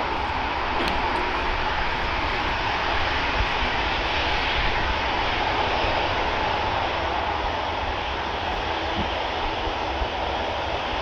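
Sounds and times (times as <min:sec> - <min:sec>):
airliner engines running: 0:00.0 - 0:11.0
wind buffeting microphone: 0:00.0 - 0:11.0.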